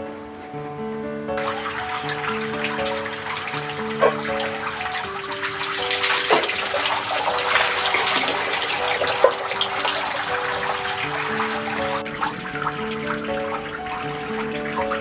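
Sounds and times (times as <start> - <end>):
background music with held notes: 0.0 - 15.0
water running and splashing: 1.4 - 15.0.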